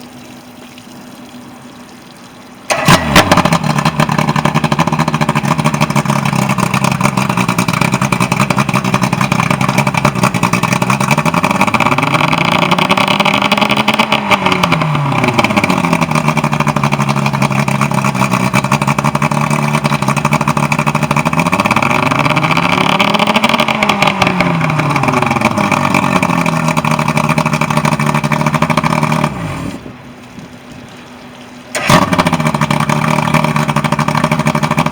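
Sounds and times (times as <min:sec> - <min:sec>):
outboard motor revving: 0:02.7 - 0:30.2, 0:31.6 - 0:34.9.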